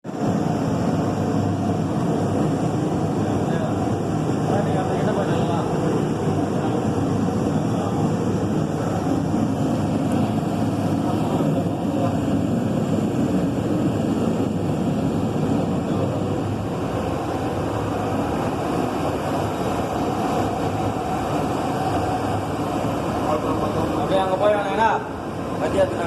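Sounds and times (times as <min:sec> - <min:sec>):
gas burner flame rushing: 0:00.0 - 0:26.0.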